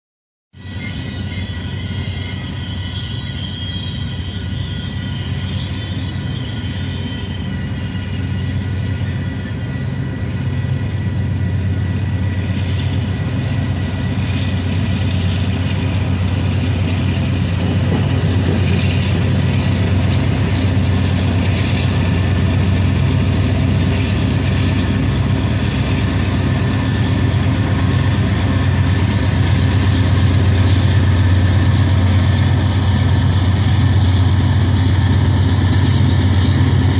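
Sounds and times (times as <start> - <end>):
wheel squeal: 0.6 - 10.2, 15.2 - 36.9
diesel locomotive engine hum: 0.6 - 36.9
train cars rumbling: 0.6 - 36.9.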